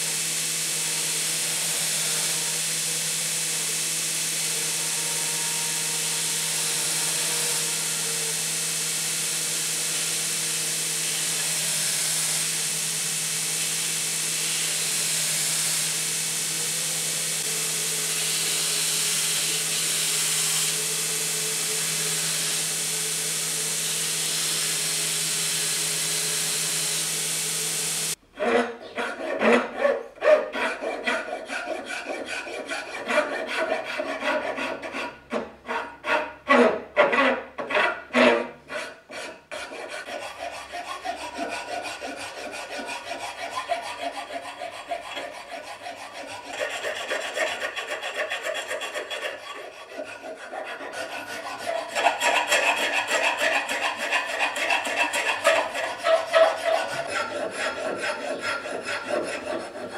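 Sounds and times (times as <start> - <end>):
metal file rasping on wood: 0.0 - 59.9.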